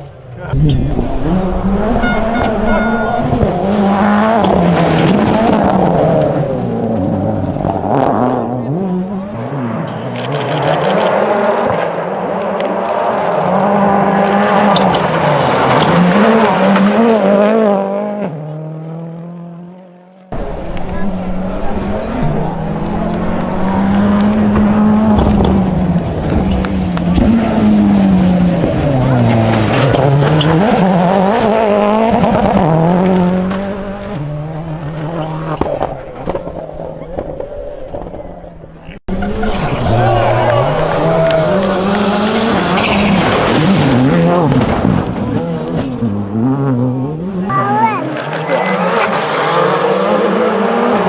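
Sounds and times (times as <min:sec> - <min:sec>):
rally car engine running hard: 0:00.0 - 0:51.0.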